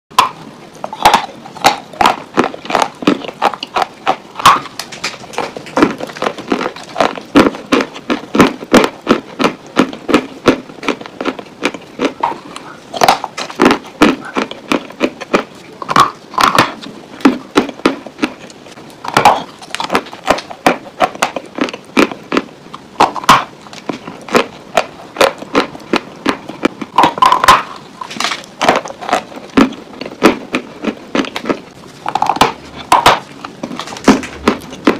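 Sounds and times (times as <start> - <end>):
dry clay crunching when chewed: 0.2 - 34.9.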